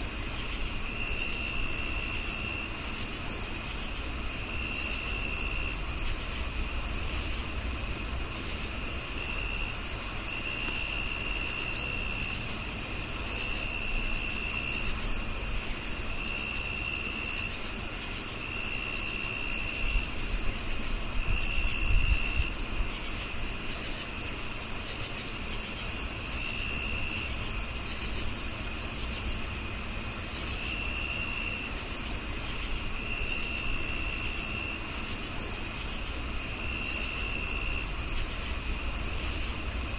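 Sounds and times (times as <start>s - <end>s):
crickets trilling: 0.0s - 39.9s
pulsing cricket chirp: 0.0s - 39.9s.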